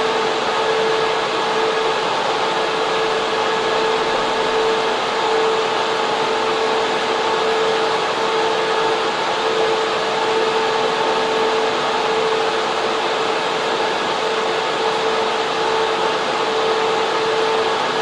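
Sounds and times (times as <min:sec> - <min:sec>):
cooling fans rushing: 0:00.0 - 0:18.0.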